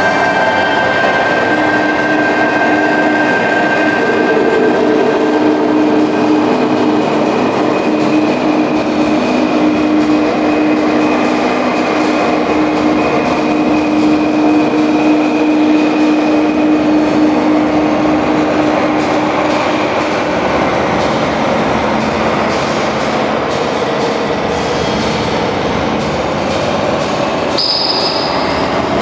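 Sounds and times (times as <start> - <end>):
vehicle running noise: 0.0 - 29.0.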